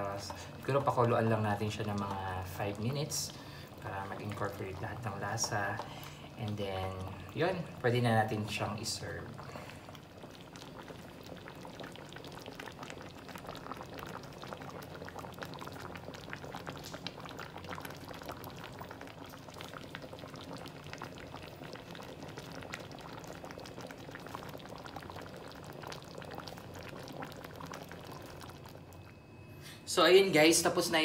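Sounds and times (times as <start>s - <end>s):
thick sauce bubbles popping: 0.0s - 29.2s.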